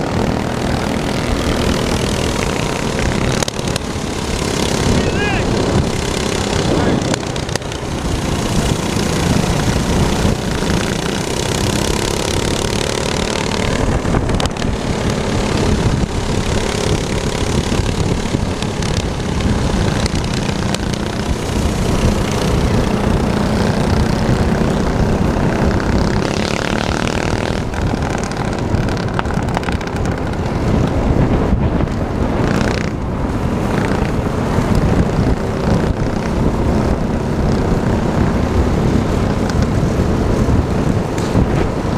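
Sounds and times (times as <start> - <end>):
minibike engine running: 0.0 - 41.9.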